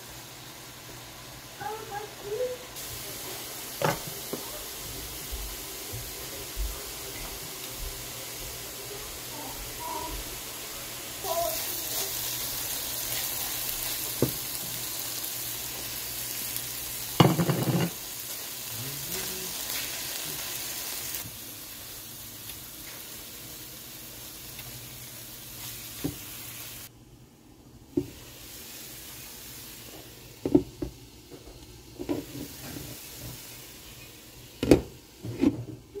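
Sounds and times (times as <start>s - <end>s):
food sizzling in a pan: 0.0s - 26.9s, 27.9s - 36.0s.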